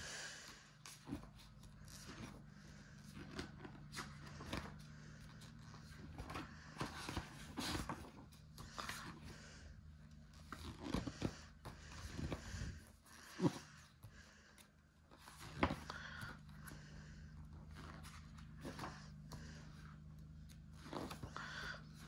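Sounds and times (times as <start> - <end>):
faint low hum: 0.0 - 22.0
book pages rustling: 0.8 - 22.0.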